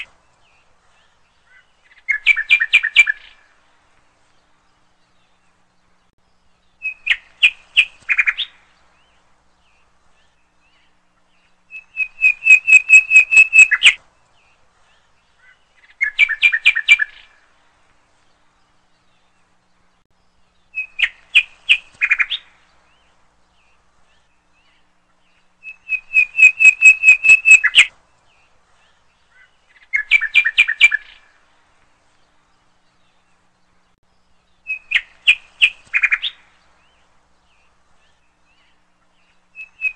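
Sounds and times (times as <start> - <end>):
bird chirping: 0.0 - 17.6, 18.2 - 39.9.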